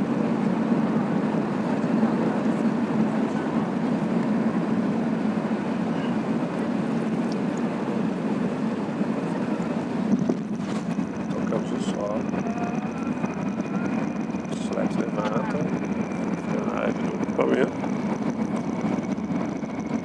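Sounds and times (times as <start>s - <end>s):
aircraft cabin low rumble: 0.0s - 20.0s.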